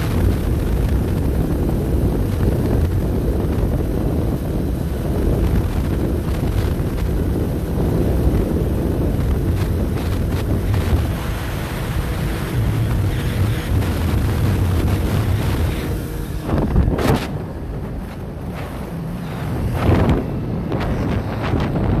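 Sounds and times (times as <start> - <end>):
motorcycle engine and road rumble: 0.0 - 22.0
wind buffeting microphone: 0.0 - 22.0.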